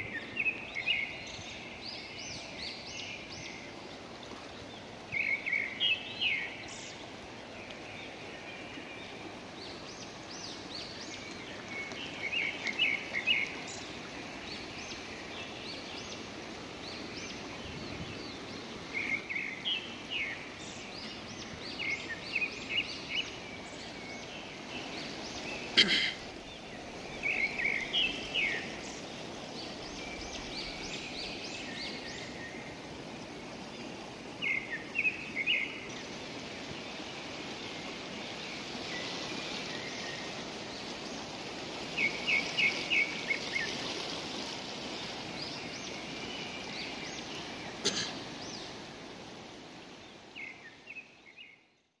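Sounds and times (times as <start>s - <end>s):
river rushing: 0.0s - 51.6s.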